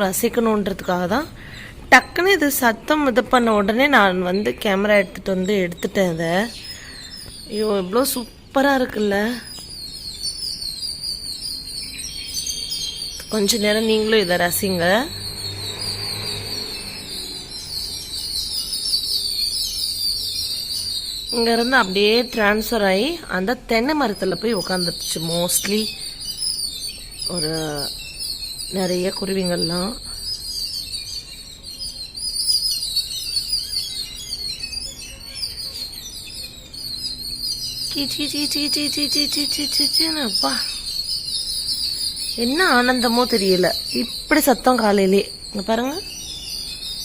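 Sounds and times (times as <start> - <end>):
sparrows chirping: 0.0 - 47.0.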